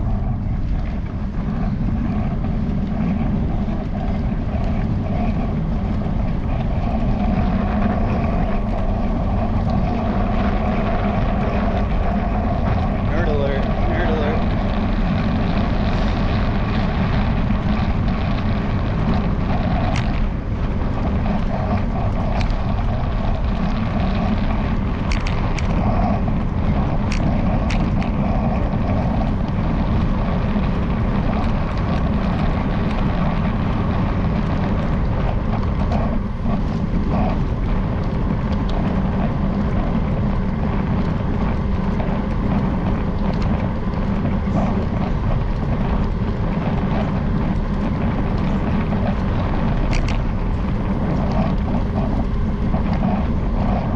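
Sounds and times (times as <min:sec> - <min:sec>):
bicycle road noise: 0:00.0 - 0:53.9
wind rumble on microphone: 0:00.0 - 0:53.9.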